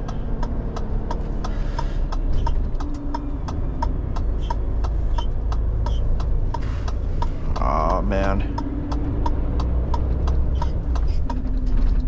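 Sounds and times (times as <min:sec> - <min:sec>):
lorry engine running: 0:00.0 - 0:12.0
turn signal ticking: 0:00.0 - 0:12.0.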